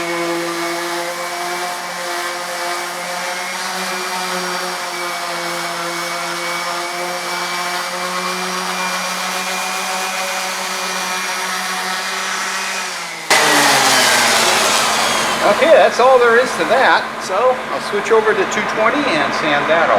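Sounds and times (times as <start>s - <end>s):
orbital sander on wood: 0.0s - 19.8s.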